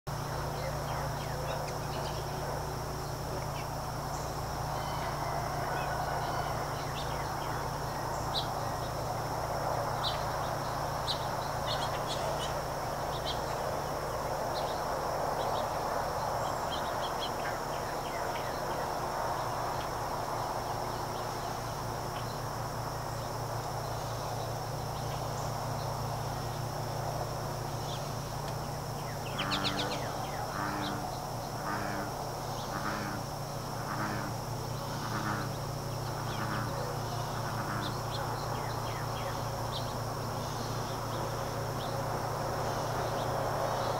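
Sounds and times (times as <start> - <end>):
insect drone: 0.1 - 43.9
low steady hum: 0.1 - 43.9.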